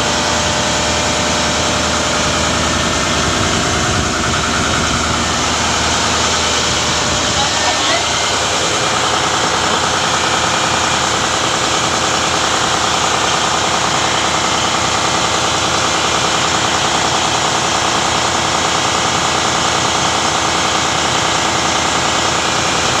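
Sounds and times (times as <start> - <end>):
diesel engine clattering: 0.0 - 23.0.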